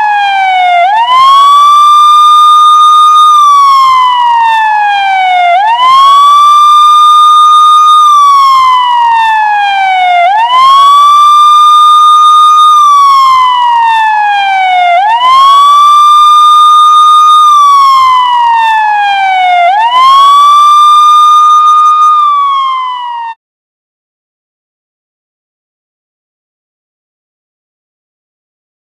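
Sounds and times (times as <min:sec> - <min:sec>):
police siren wailing: 0:00.0 - 0:23.4.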